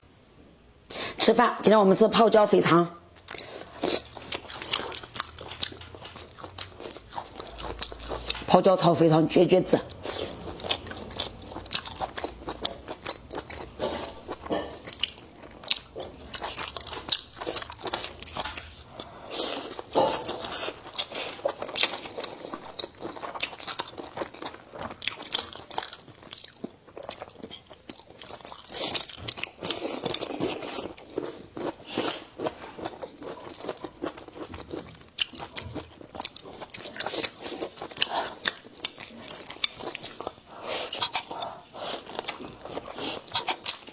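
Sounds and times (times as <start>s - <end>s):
crunchy chewing: 3.2s - 8.5s, 9.9s - 43.9s.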